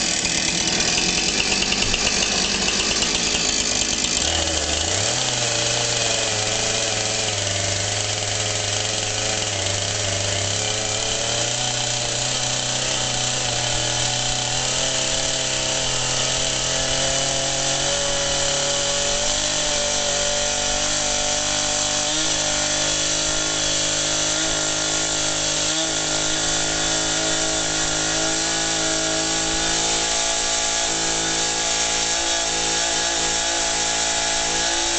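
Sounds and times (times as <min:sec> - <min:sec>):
chainsaw cutting straw bale: 0:00.0 - 0:34.9.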